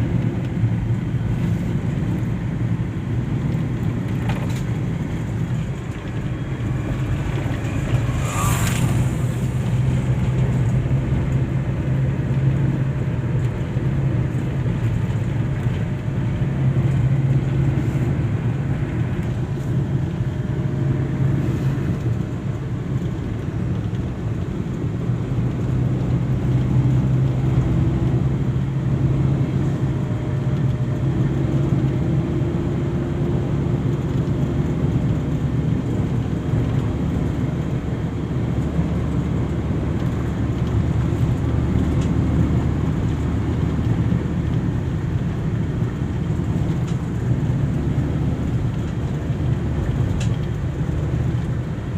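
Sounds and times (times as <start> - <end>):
vehicle engine hum: 0.0 - 51.9.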